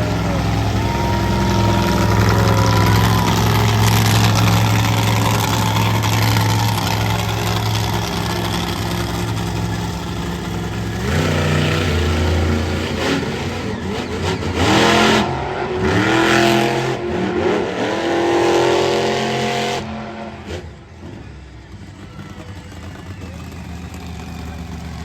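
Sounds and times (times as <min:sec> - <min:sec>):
truck engine revving hard: 0:00.0 - 0:25.0.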